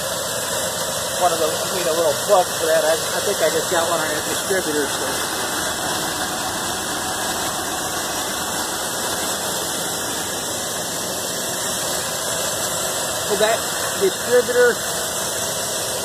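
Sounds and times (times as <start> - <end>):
exhaust leak squeak: 0.0 - 16.0
truck engine idling: 0.0 - 16.0.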